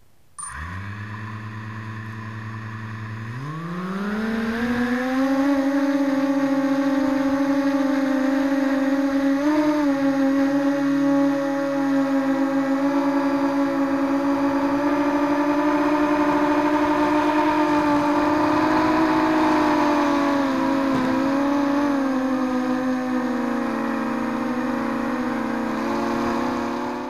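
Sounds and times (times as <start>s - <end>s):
quadcopter motors humming: 0.4s - 27.0s.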